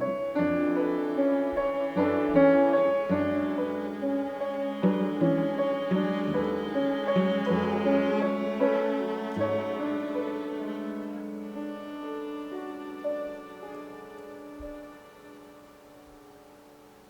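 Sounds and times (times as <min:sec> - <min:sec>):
slow instrumental classical music: 0:00.0 - 0:17.0.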